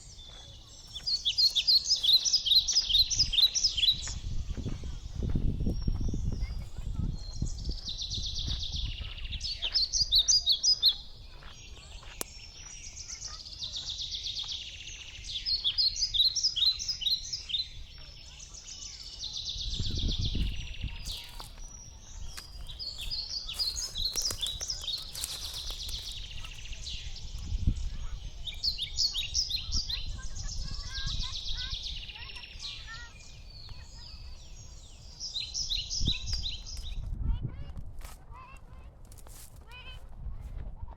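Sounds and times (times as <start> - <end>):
songbird trilling song: 0.0 - 37.1.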